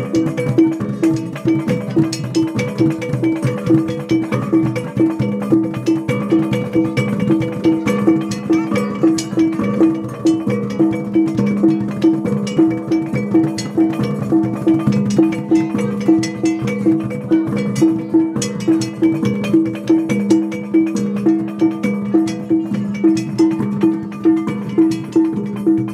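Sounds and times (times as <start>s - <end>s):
tuned percussion note: 0.0s - 25.9s.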